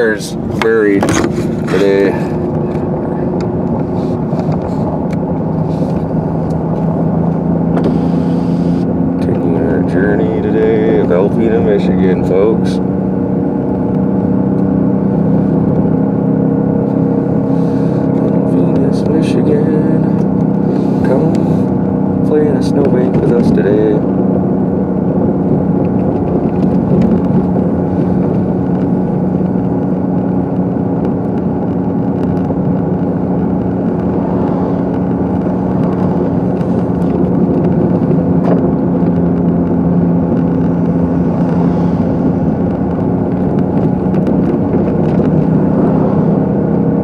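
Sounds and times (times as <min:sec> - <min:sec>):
car engine hum: 0:00.0 - 0:47.0.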